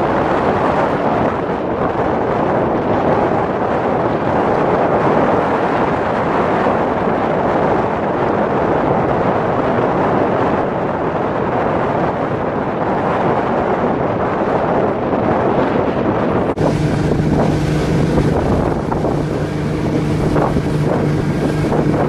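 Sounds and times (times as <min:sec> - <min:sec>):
choppy waves: 0:00.0 - 0:22.0
wind buffeting microphone: 0:00.0 - 0:22.0.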